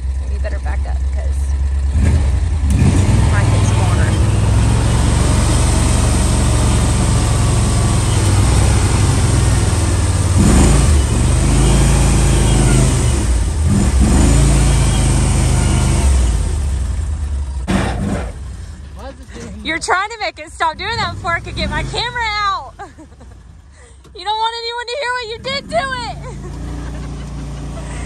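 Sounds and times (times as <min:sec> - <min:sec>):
vehicle engine under load: 0:00.0 - 0:28.0.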